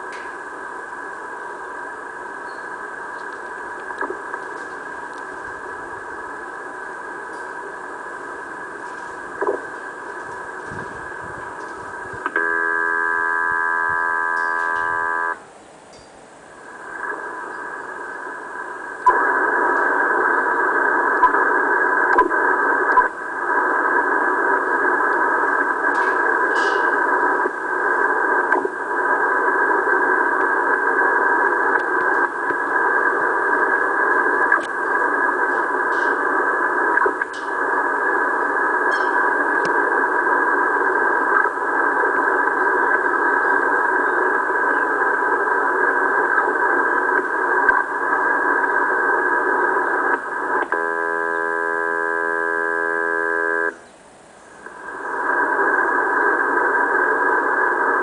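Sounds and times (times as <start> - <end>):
radio interference noise: 0.0 - 15.5, 16.4 - 58.0
steady radio tones: 0.0 - 15.5, 16.4 - 58.0.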